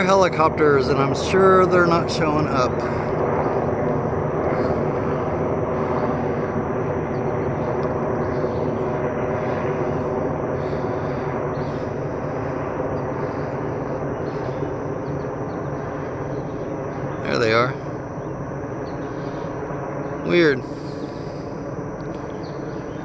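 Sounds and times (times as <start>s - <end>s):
helicopters droning overhead: 0.0s - 23.0s.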